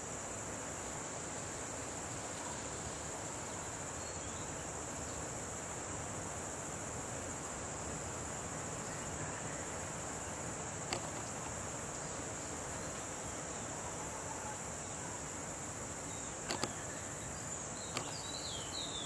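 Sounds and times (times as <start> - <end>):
forest ambience hiss: 0.0 - 19.0
high-pitched insect chorus: 0.0 - 19.0.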